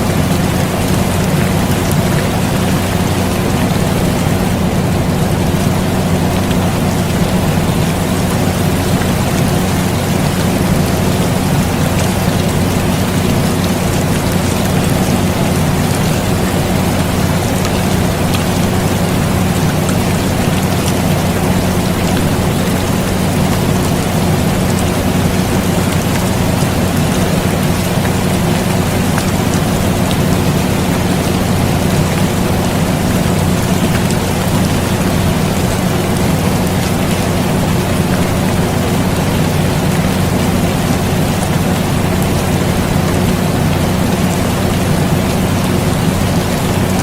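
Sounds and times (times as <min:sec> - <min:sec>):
air conditioner humming: 0:00.0 - 0:47.0
rain with drop ticks: 0:00.0 - 0:47.0.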